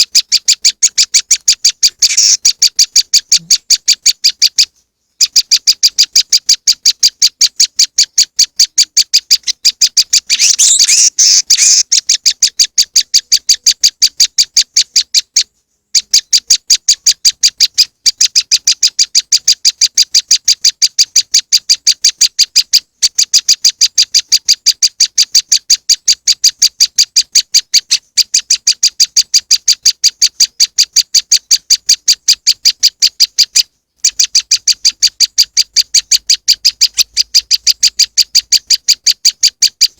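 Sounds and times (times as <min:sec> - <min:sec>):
bird chattering burst: 0:00.0 - 0:04.4, 0:05.3 - 0:15.3, 0:16.0 - 0:39.9
recorded bird chirps: 0:00.0 - 0:39.9.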